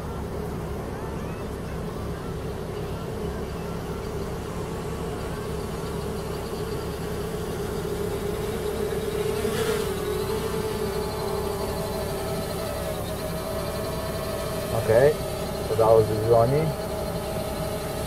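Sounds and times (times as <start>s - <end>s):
drone propellers buzzing: 0.0s - 18.0s.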